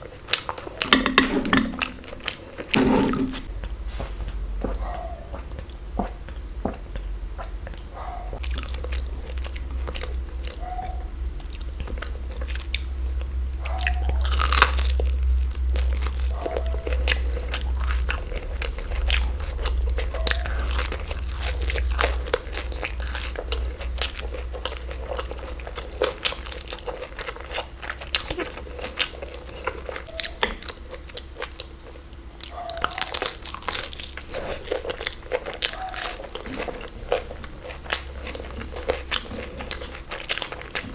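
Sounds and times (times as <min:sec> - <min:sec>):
crunchy chewing: 0:00.0 - 0:01.0, 0:01.8 - 0:40.9.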